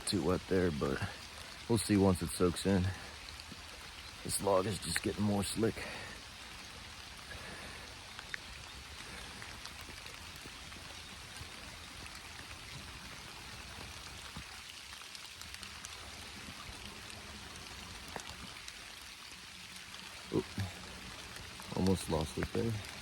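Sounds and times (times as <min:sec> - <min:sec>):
rain falling: 0:00.0 - 0:23.0
raindrop ticks: 0:00.0 - 0:23.0
stream running: 0:00.0 - 0:23.0.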